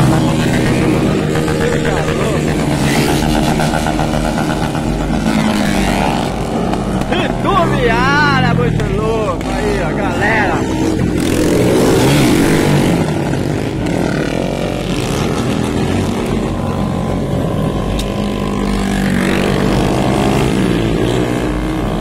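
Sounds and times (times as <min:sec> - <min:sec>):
motorcycles revving past: 0:00.0 - 0:22.0.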